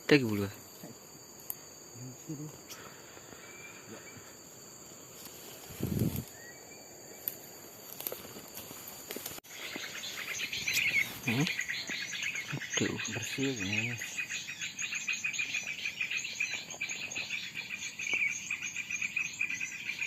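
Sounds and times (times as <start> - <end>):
small birds chirping: 0.0 - 4.8, 5.6 - 20.0
crickets and insects droning: 0.0 - 20.0.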